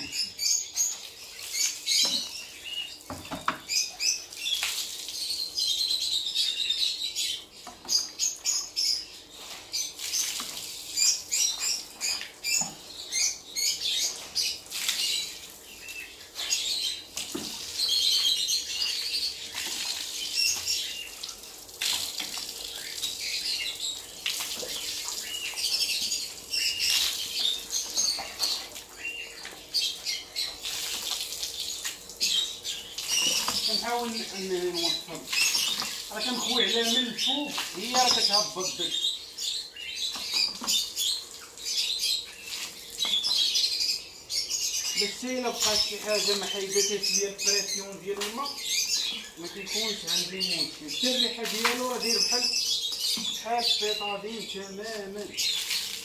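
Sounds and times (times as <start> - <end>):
water running and splashing: 0.0 - 5.8, 9.2 - 13.2, 13.8 - 39.4, 40.1 - 43.6, 44.9 - 56.0
cage birds chirping: 0.0 - 56.0.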